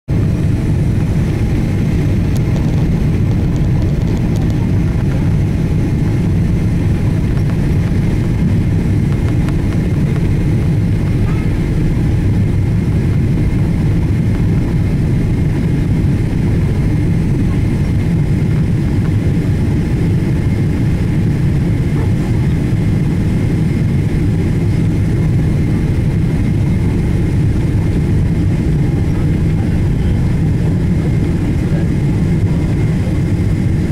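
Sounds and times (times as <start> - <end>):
jet engine cabin rumble: 0.1 - 33.9.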